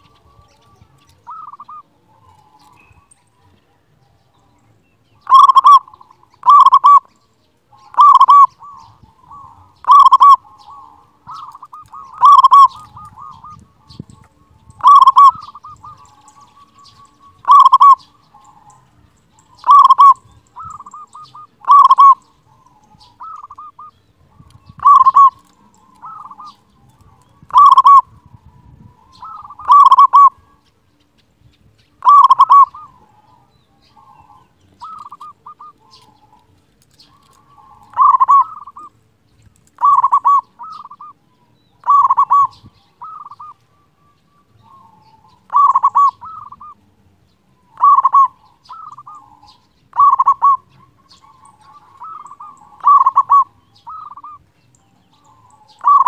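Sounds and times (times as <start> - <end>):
dove cooing: 0.0 - 3.8, 5.2 - 30.6, 32.0 - 39.0, 39.7 - 47.0, 47.6 - 56.0.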